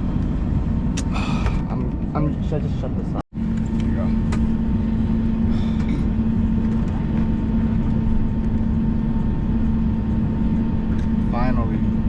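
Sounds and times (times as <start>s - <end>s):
constant hum: 0.0s - 12.0s
jet engines idling rumble: 0.0s - 12.0s.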